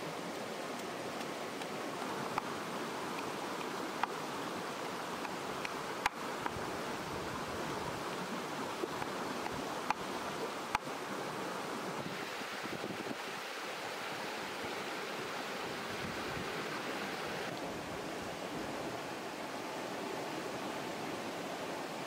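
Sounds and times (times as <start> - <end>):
stream running over rocks: 0.0 - 22.0.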